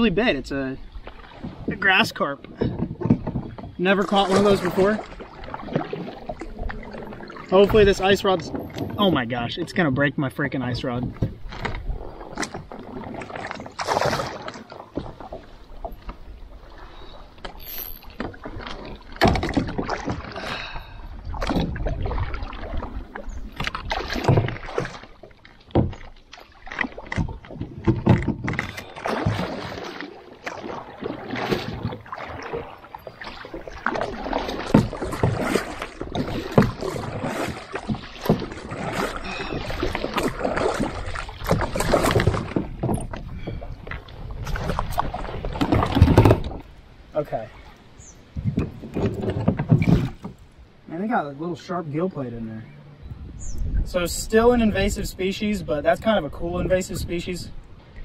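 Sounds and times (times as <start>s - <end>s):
paddle strokes splashing water: 0.0s - 51.0s.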